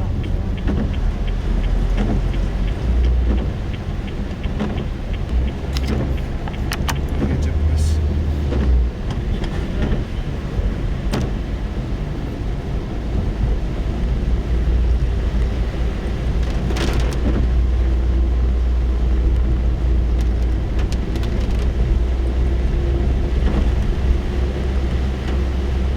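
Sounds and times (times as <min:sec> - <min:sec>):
car rumbling: 0:00.0 - 0:25.9
rain on a car: 0:00.0 - 0:25.9.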